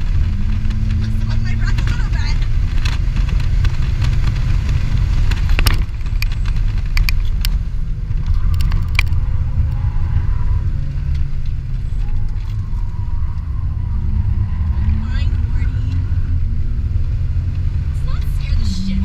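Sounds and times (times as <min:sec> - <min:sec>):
car engine rumbling in cabin: 0:00.0 - 0:19.0
tyre and road noise: 0:00.0 - 0:19.0.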